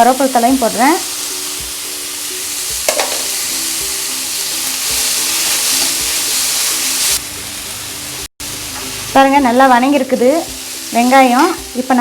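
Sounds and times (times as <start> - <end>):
faint background music: 0.0 - 12.0
vegetables sizzling in hot oil: 0.0 - 12.0.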